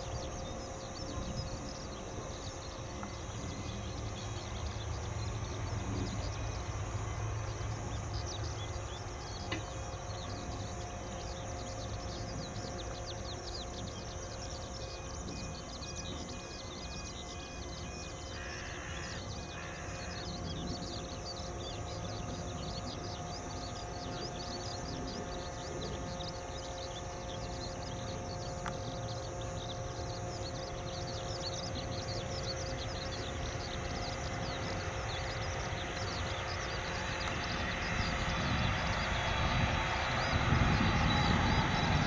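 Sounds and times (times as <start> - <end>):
jet engines whining and rumbling: 0.0 - 42.0.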